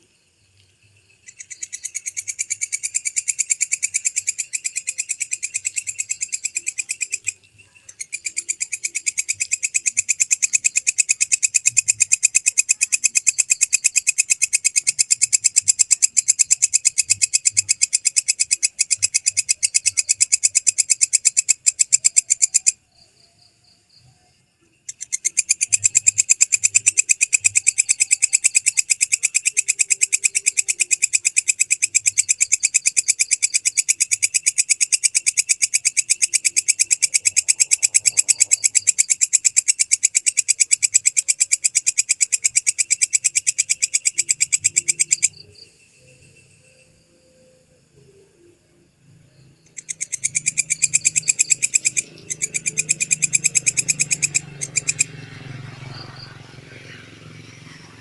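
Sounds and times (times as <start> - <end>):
katydid stridulating: 0.0 - 58.0.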